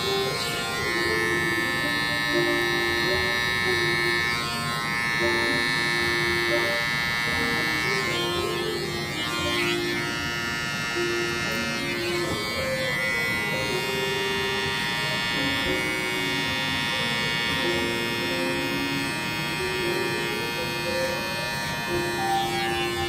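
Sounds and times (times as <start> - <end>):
background music: 0.0 - 23.0
electric hair clipper buzzing: 0.0 - 23.0
rasp of cutting hair: 0.0 - 23.0.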